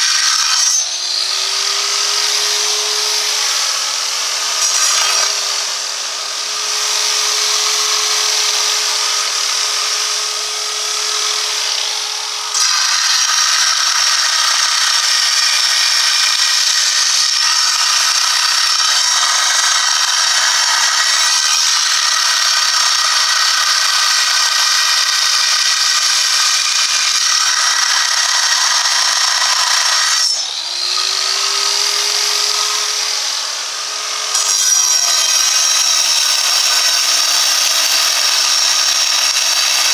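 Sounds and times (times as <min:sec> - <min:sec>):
angle grinder cutting stone: 0:00.0 - 0:39.9.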